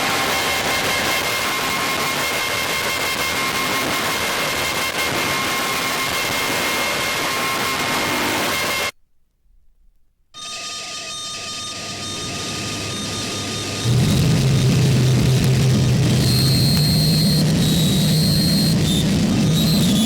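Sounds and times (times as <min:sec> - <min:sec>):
high whining tones: 0:00.0 - 0:09.0, 0:10.4 - 0:20.0.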